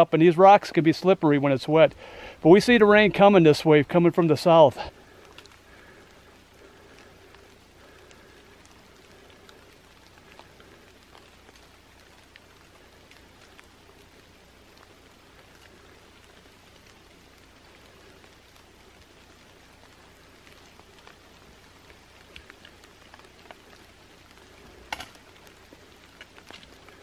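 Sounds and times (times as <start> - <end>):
light rain hiss: 0.0 - 27.0
raindrops ticking: 0.0 - 27.0.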